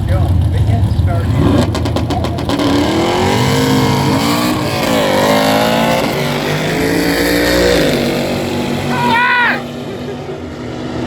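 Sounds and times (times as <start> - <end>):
racing car engine revving: 0.0 - 11.0.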